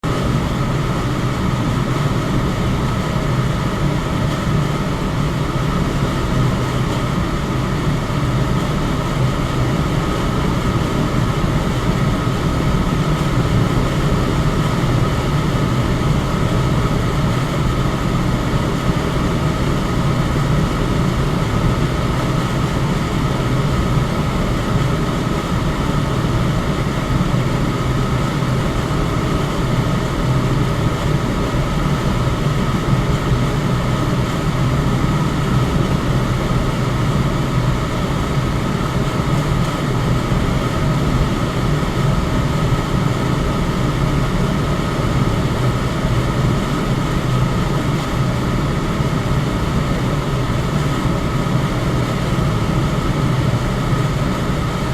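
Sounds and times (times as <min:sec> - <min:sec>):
electric fan whooshing: 0:00.0 - 0:54.9.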